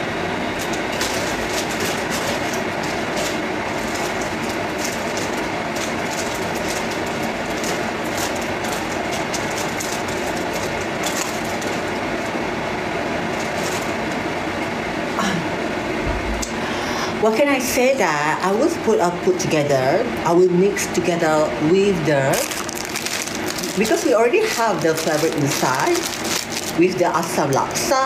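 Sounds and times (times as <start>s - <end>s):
water boiling in a pot: 0.0s - 28.0s.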